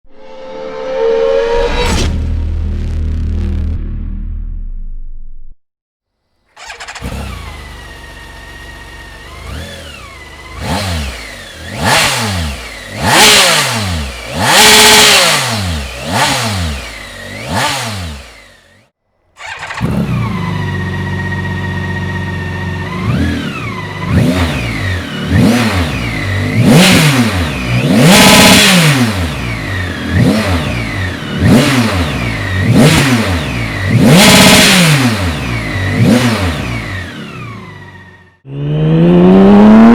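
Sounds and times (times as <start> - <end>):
motorcycle engine idling and revving: 6.2 - 39.9.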